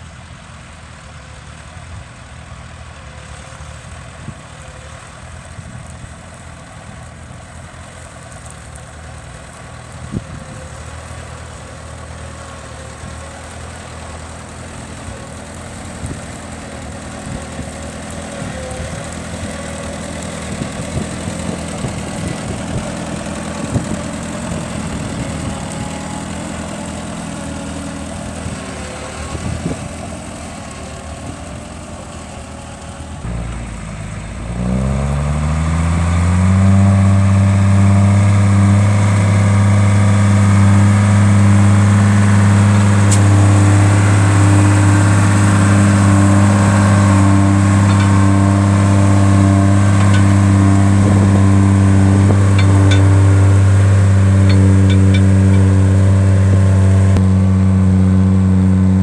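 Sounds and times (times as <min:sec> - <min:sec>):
engine revving up: 0:09.5 - 0:33.5, 0:34.3 - 0:59.0.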